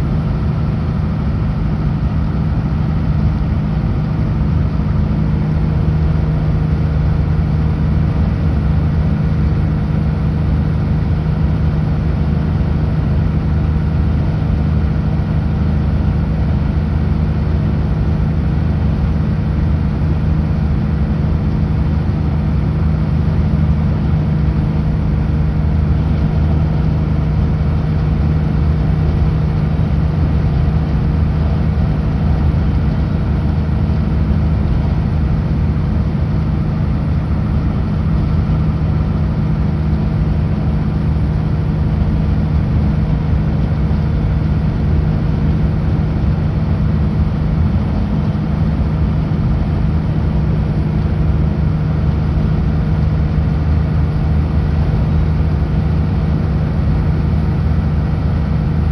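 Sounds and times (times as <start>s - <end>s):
diesel truck engine droning: 0.0s - 58.9s.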